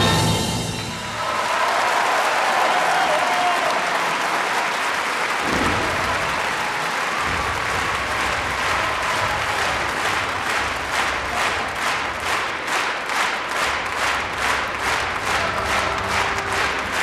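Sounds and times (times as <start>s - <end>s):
audience applauding: 0.9s - 17.0s.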